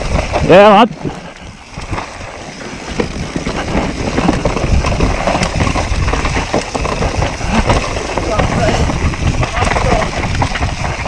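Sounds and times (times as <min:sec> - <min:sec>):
bike knocks and rattles: 0:00.0 - 0:11.0
tyres rumbling on dirt: 0:00.0 - 0:11.0
wind buffeting microphone: 0:00.0 - 0:11.0.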